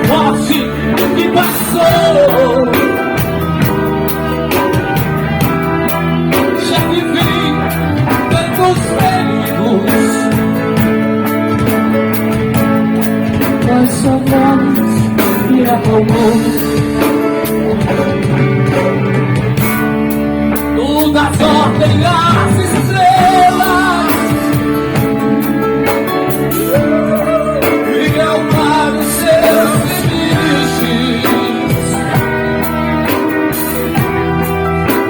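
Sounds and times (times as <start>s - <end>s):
person singing lead vocal: 0.0s - 3.9s, 6.2s - 11.2s, 13.3s - 19.3s, 20.7s - 34.1s
bass guitar: 0.0s - 35.0s
drum kit: 0.0s - 35.0s
electric guitar: 0.0s - 35.0s.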